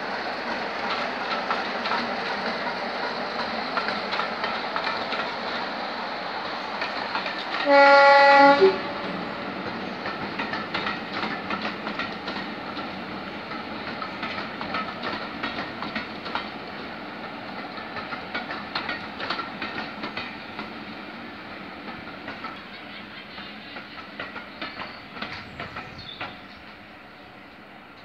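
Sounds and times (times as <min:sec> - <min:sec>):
train rolling rumble: 0:00.0 - 0:28.0
train wheels clicking over rail joints: 0:00.1 - 0:27.0.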